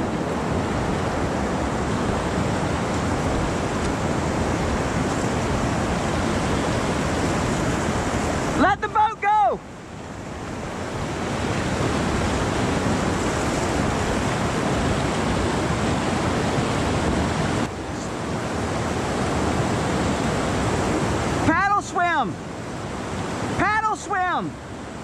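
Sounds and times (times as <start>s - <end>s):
river rapid rushing: 0.0s - 25.0s.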